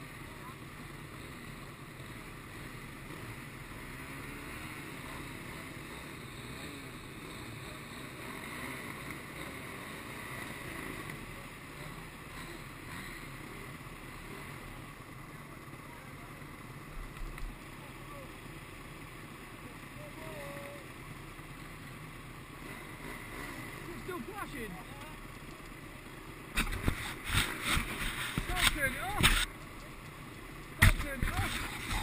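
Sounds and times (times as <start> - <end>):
dirt bike engines idling: 0.0 - 32.0.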